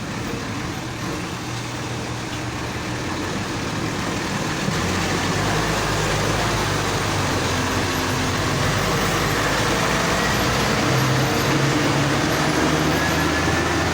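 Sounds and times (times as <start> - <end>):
excavator diesel engine: 0.0 - 13.9.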